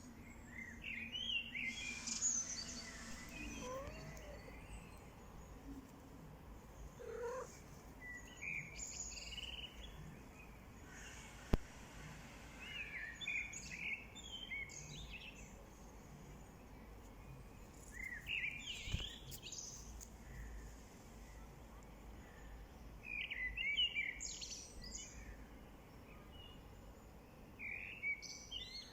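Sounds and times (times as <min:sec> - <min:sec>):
small birds chirping: 0:00.0 - 0:11.3, 0:12.6 - 0:28.9.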